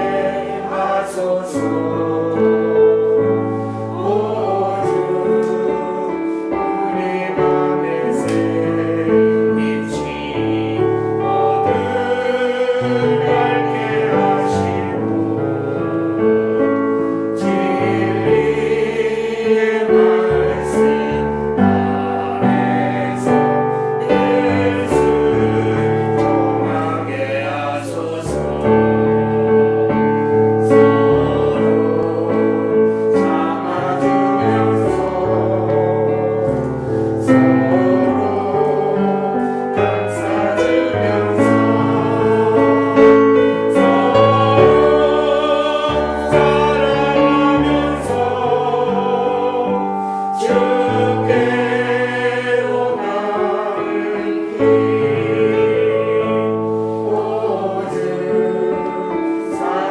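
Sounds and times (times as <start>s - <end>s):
choir singing a hymn: 0.0s - 59.9s
instrumental accompaniment: 0.0s - 59.9s.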